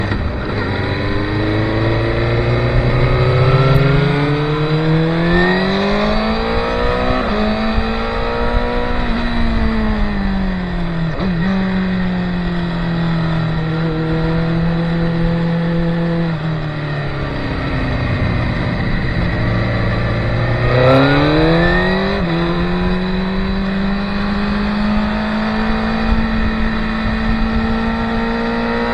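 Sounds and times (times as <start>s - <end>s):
racing motorcycle engines: 0.0s - 28.9s.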